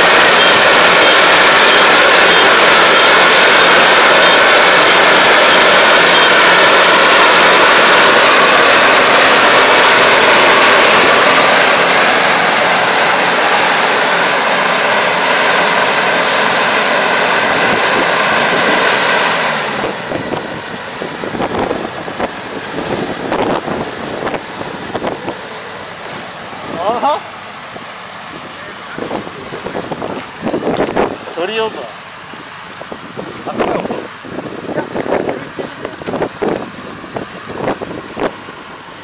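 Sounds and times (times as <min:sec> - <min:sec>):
combine harvester running with whine: 0:00.0 - 0:39.0.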